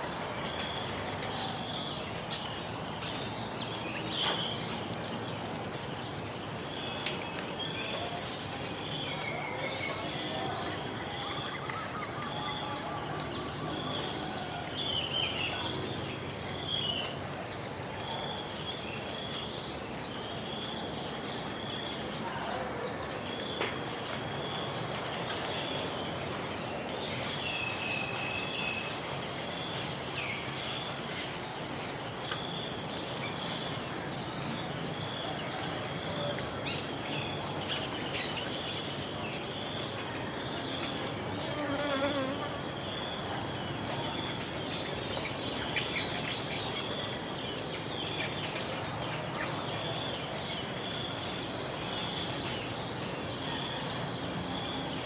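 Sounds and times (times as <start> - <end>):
insects chirping and whining: 0.0 - 55.0.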